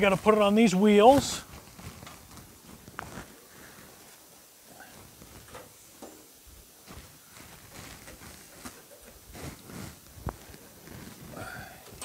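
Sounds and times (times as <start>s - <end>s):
gloved hands scuffing and rustling: 0.0s - 5.8s, 6.5s - 11.4s.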